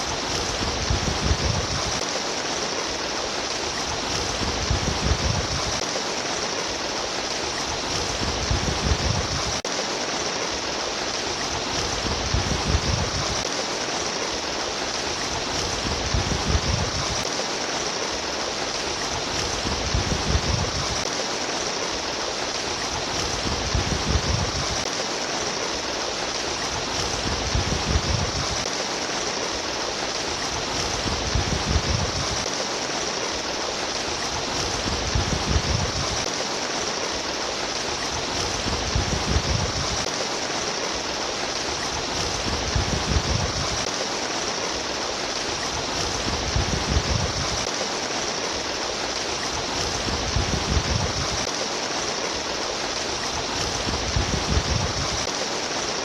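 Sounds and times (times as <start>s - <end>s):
water rushing and babbling: 0.0s - 56.0s.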